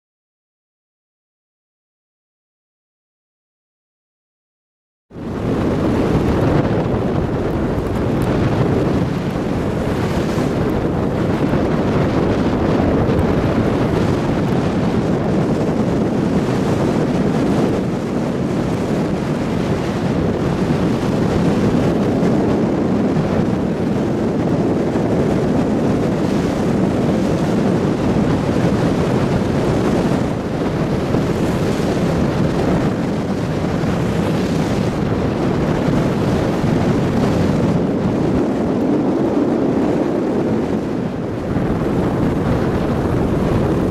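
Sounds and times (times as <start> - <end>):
low road rumble: 5.1 - 43.9.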